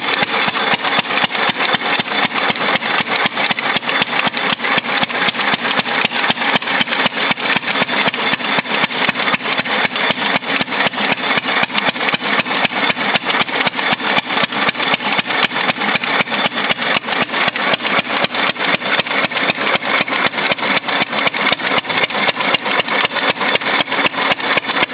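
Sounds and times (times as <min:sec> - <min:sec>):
generator engine running: 0:00.0 - 0:24.9.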